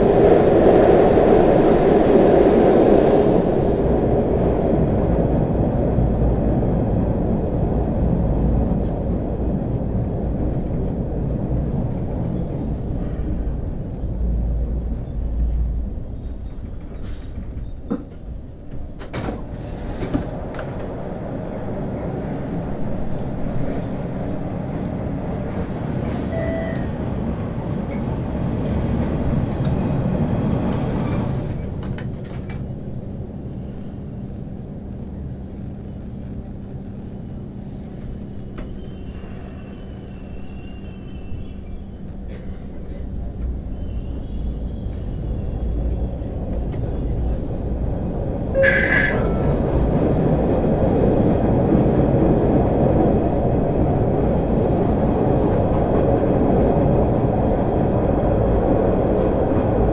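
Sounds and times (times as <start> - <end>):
subway car rumble: 0.0 - 59.9.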